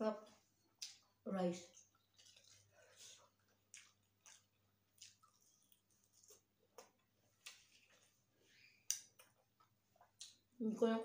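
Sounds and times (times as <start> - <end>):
person chewing food: 0.3 - 10.5.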